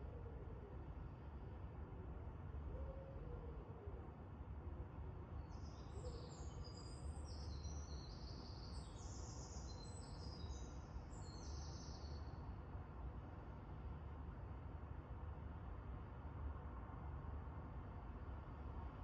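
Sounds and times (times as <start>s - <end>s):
faint low outdoor rumble: 0.0s - 19.0s.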